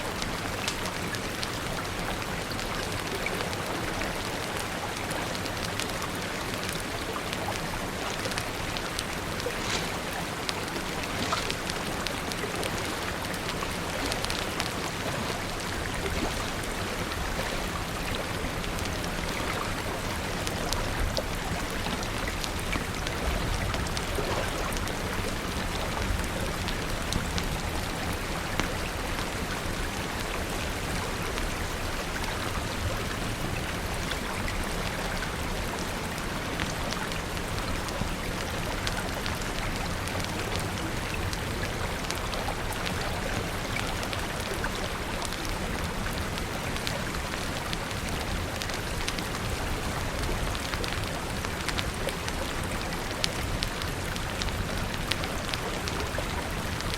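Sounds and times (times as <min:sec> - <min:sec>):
rain falling: 0:00.0 - 0:56.9
sharp ticks and pops: 0:00.1 - 0:56.9.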